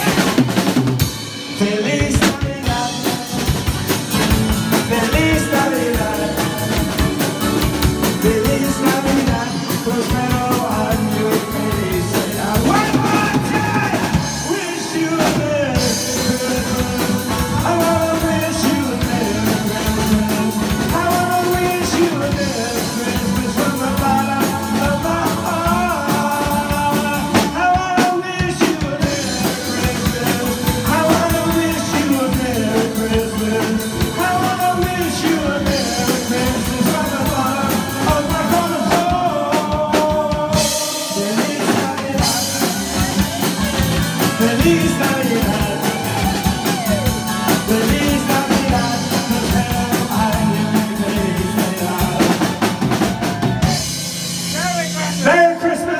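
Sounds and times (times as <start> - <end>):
men singing: 0.0 - 0.8, 1.4 - 53.9
drum kit beat: 0.0 - 55.6
pop-rock band: 0.0 - 55.9.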